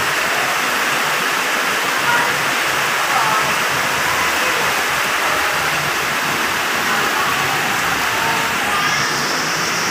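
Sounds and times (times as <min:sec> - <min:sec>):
heavy rain on flooded road: 0:00.0 - 0:09.9.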